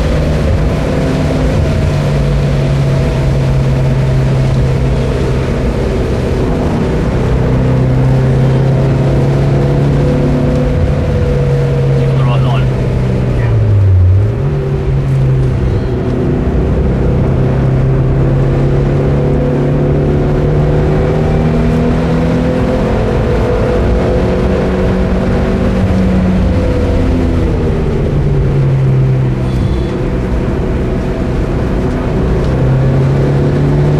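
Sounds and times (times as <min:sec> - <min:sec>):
car engine running hard: 0:00.0 - 0:33.9
road and wind noise: 0:00.0 - 0:33.9.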